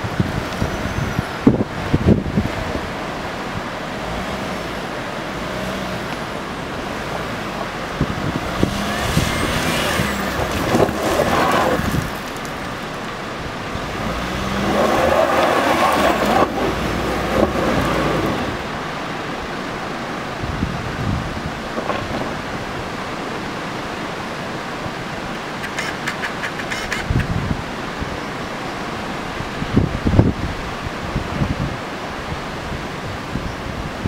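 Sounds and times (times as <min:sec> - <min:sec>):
car engine and tyre noise: 0:00.0 - 0:34.0.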